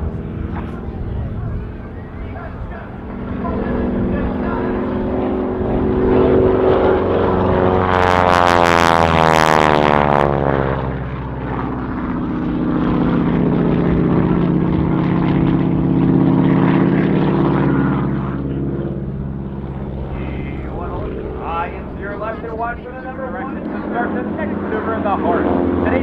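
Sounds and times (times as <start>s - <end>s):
radial engine and propeller droning: 0.0s - 26.0s.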